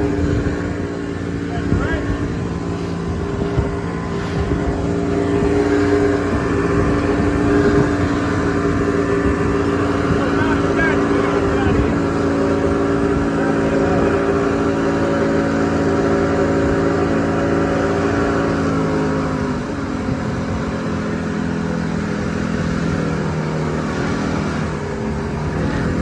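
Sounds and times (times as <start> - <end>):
motorboat engine humming: 0.0 - 26.0.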